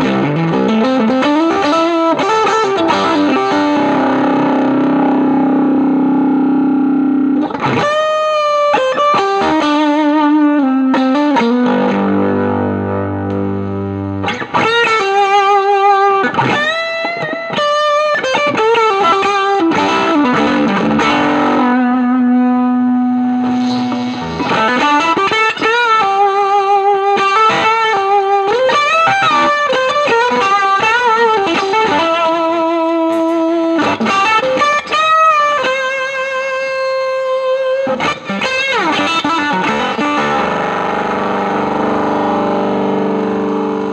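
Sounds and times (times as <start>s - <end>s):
fuzz electric guitar lead: 0.0s - 43.9s.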